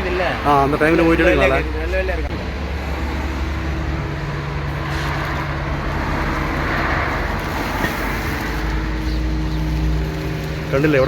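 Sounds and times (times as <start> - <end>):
traffic noise: 0.0 - 11.0
vehicle engine hum: 0.0 - 11.0
vehicle passing by: 0.0 - 11.0.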